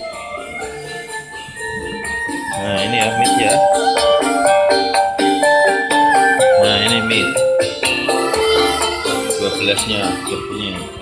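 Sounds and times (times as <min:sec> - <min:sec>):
music through a speaker: 0:00.0 - 0:11.0.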